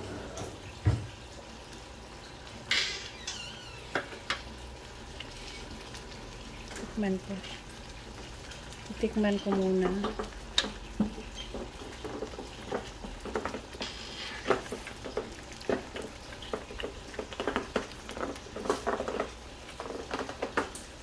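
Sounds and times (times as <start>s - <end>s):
sauce bubbles popping: 3.3s - 21.0s.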